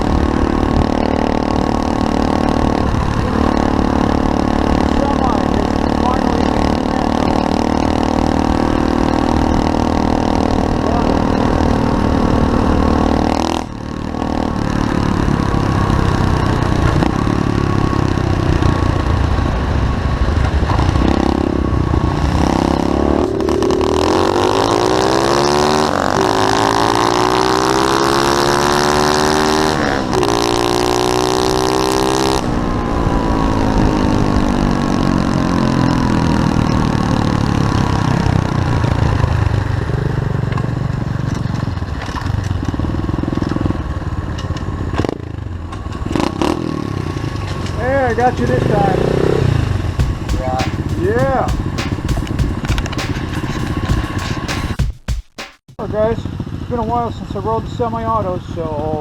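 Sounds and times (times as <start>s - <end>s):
motorbike engine revving: 0.0s - 40.2s, 48.4s - 55.8s.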